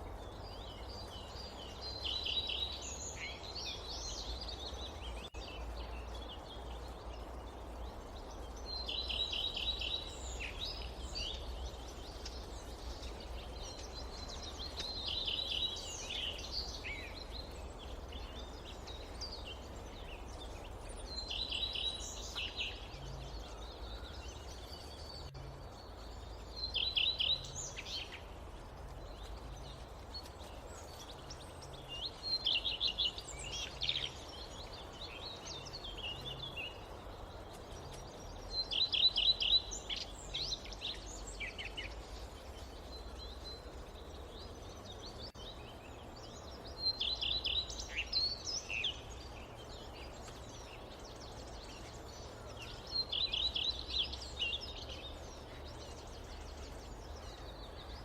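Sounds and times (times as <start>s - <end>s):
low rush of forest ambience: 0.0s - 58.0s
songbird singing: 0.0s - 58.0s.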